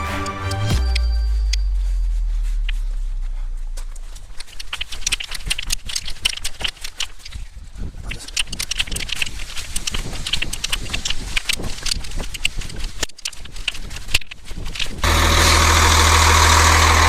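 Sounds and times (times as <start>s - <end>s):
gravel crunching: 0.0s - 17.0s.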